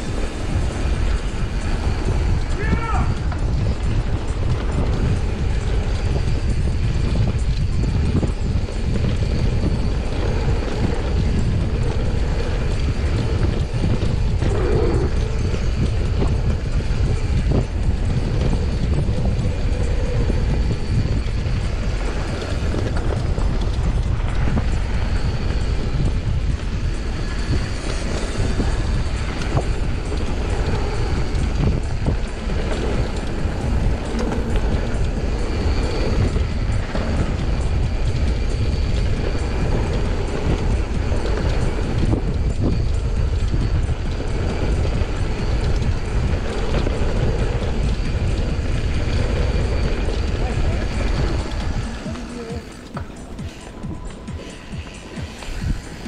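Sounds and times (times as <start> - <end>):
bike knocking and rattling: 0.0 - 56.0
bike tyres rumbling over dirt: 0.0 - 56.0
tyres over wooden boardwalk: 0.0 - 56.0
wind buffeting microphone: 0.0 - 56.0.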